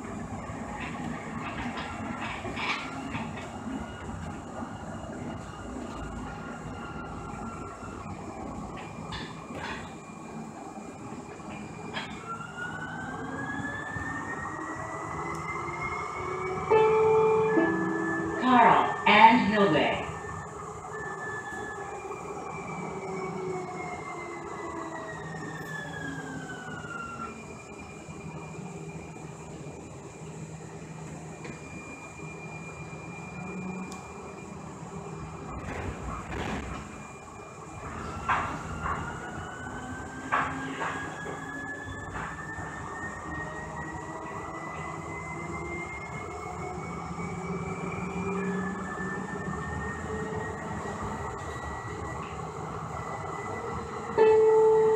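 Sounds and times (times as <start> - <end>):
rumble of wheels on track: 0.0 - 54.9.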